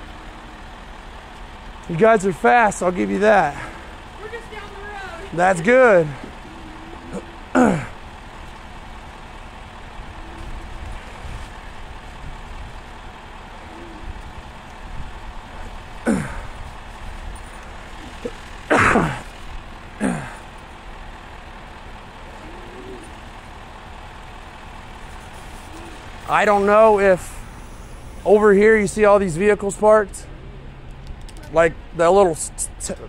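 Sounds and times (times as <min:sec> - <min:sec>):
vehicle engine idling: 0:00.0 - 0:33.0.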